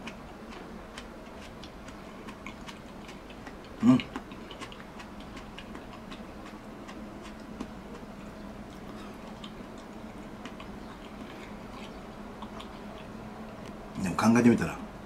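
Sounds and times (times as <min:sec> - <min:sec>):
chewing: 0:00.0 - 0:13.9
steady low hum: 0:00.0 - 0:15.0.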